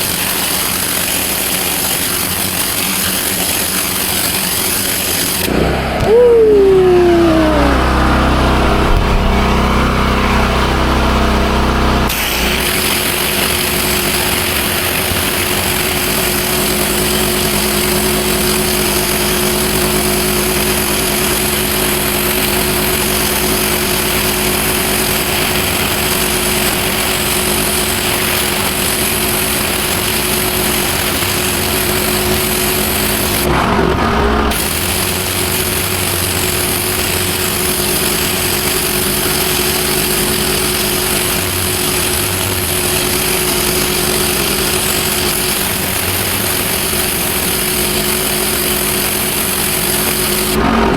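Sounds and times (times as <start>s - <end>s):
water jet spraying on paving: 0.0s - 5.6s, 12.1s - 33.6s, 34.4s - 50.6s
pressure washer engine drone: 0.0s - 50.9s.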